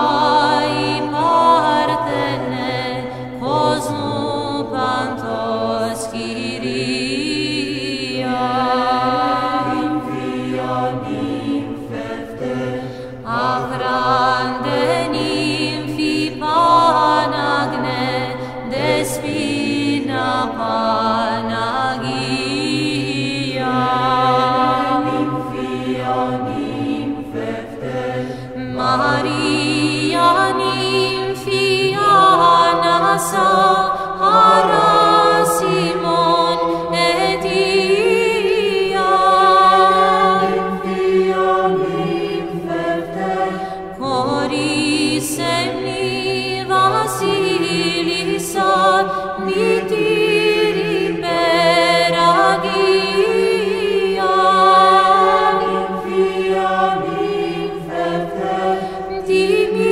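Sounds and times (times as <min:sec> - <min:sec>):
melismatic sung melody: 0:00.0 - 0:59.9.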